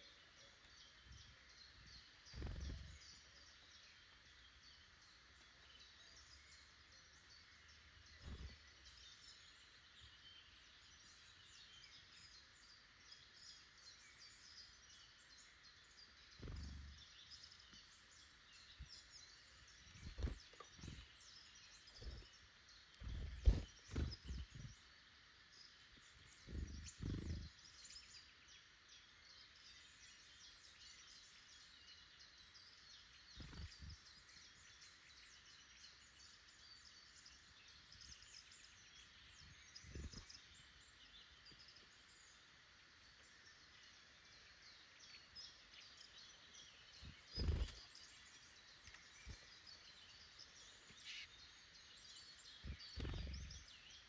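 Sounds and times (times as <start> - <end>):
faint distant birdsong: 0.0 - 54.0.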